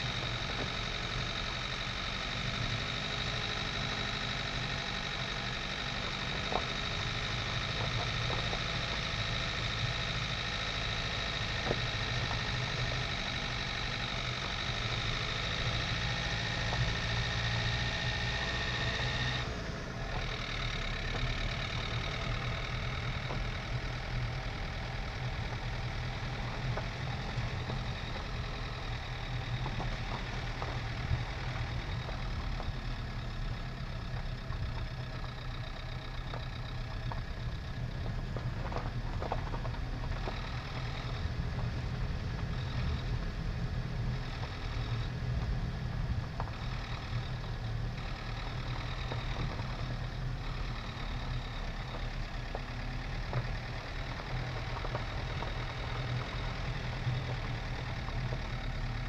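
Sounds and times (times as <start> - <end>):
diesel car engine running: 0.0 - 59.0.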